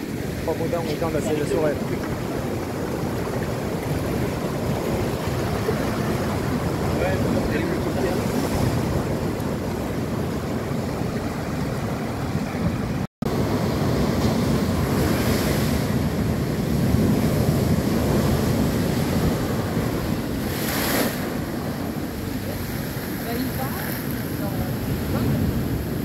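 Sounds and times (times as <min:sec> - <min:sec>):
surf breaking against seawall: 0:00.0 - 0:26.0.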